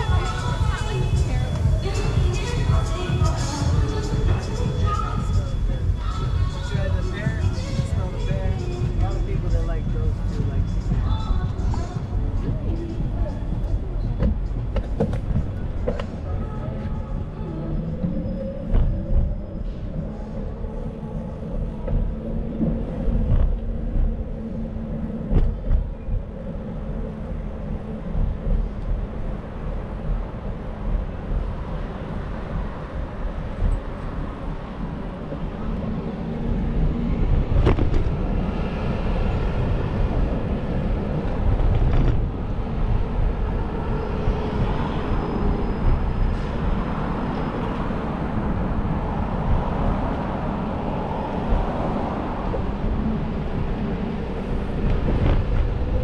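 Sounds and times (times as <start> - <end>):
rumble of passing vehicles: 0.0 - 56.0.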